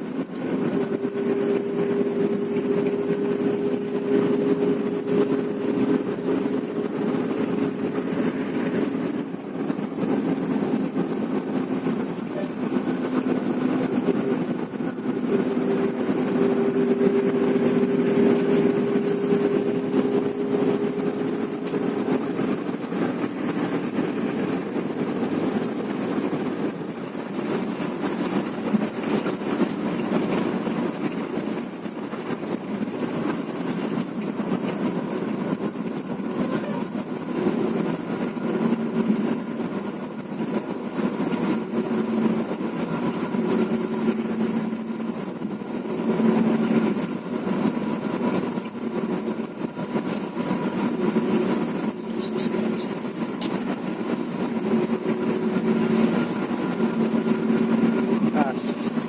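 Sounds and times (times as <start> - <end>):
bus engine drone: 0.0 - 59.0
road noise hiss: 0.0 - 59.0.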